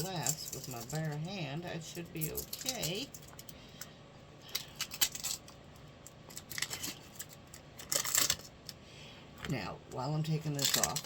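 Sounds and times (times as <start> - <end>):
shrink wrap rustling: 0.0 - 8.8, 10.2 - 11.0.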